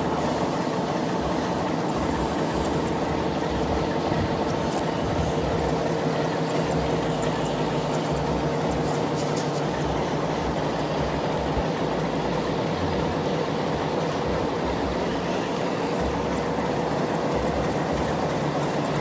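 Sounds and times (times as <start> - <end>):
model locomotive mechanical hum: 0.0 - 19.0.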